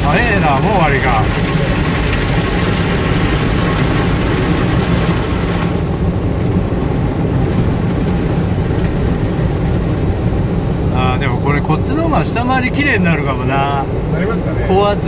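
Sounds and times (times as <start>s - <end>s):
car wash mechanical drone: 0.0s - 15.0s.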